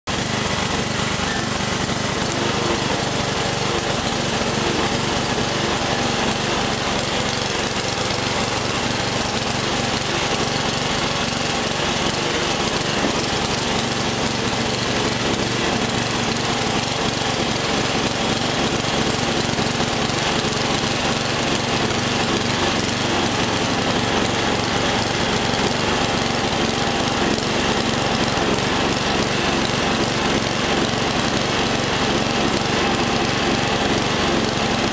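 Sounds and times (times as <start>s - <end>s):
riding lawn mower engine: 0.1s - 34.9s.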